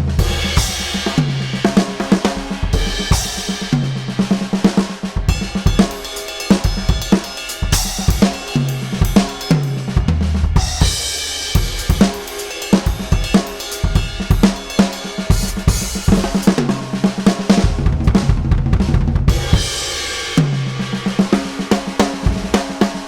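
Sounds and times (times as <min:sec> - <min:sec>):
drum kit groove: 0:00.0 - 0:23.0.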